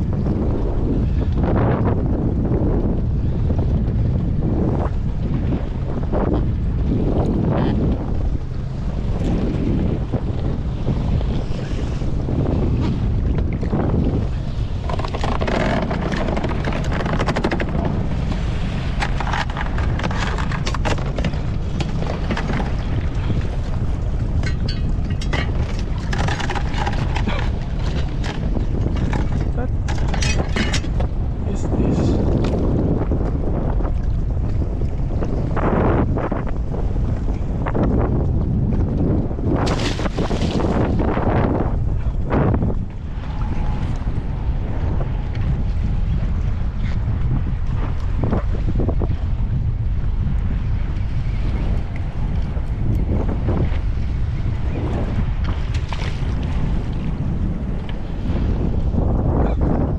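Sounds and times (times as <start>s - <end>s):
low rumble: 0.0s - 59.9s
rushes of water: 0.0s - 59.9s
wind buffeting microphone: 0.0s - 59.9s.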